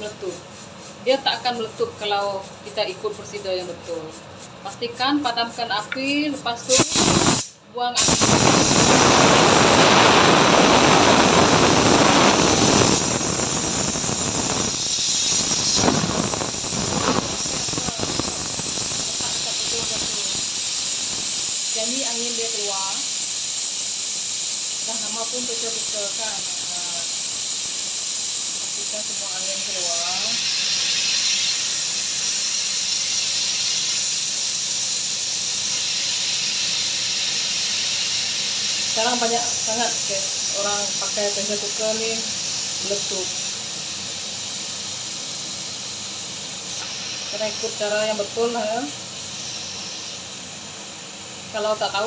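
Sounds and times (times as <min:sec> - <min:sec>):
pressure cooker steam hissing: 0:00.0 - 0:52.0.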